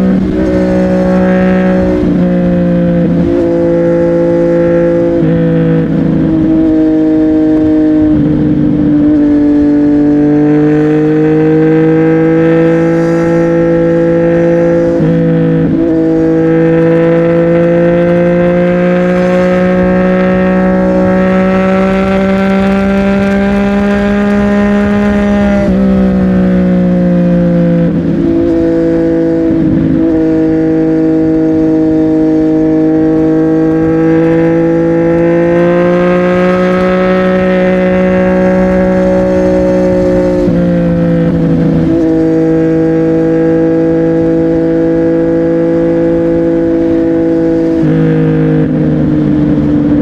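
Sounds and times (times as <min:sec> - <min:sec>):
motorcycle engine cruising: 0:00.0 - 0:50.0.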